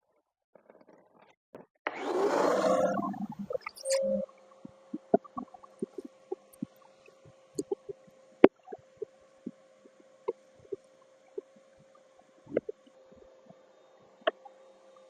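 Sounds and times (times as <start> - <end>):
faint steady hum: 2.4 - 15.0.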